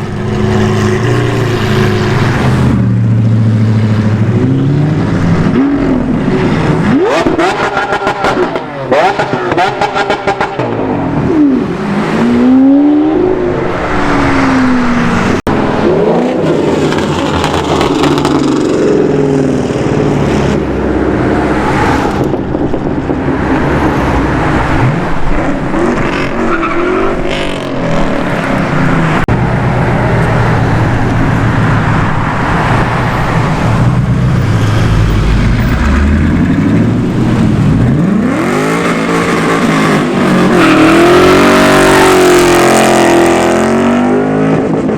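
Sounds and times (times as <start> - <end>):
cars revving and accelerating past: 0.0 - 44.9.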